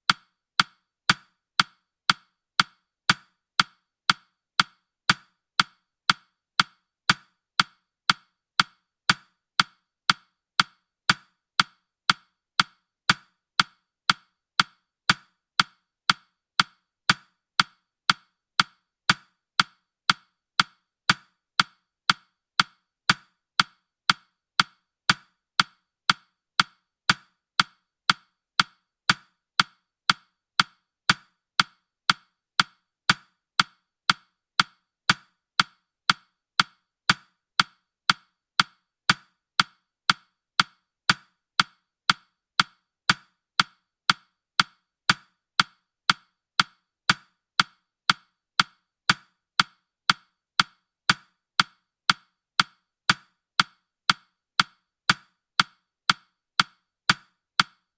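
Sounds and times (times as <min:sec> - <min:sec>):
clock ticking: 0:00.0 - 0:57.8.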